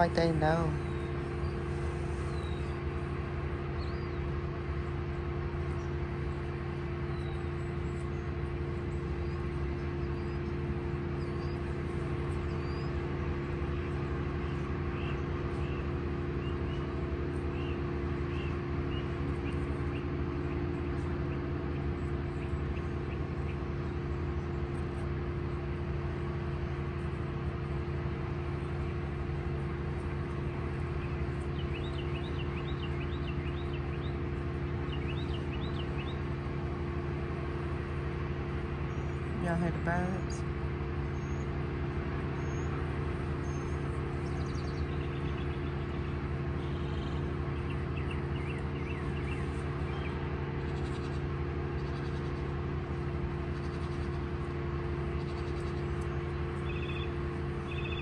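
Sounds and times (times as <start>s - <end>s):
small birds chirping: 0.0s - 25.0s, 28.5s - 36.5s, 38.6s - 58.0s
construction machinery engine drone: 0.0s - 58.0s.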